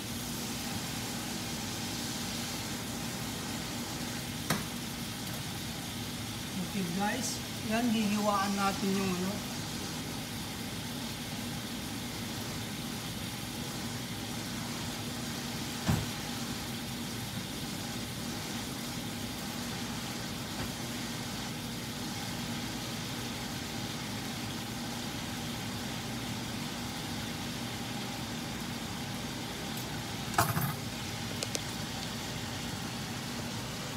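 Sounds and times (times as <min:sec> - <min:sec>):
range hood fan humming: 0:00.0 - 0:33.9.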